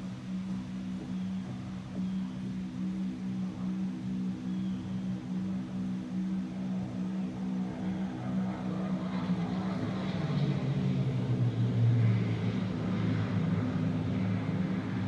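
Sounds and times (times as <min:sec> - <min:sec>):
low drone of held tones: 0:00.0 - 0:15.0.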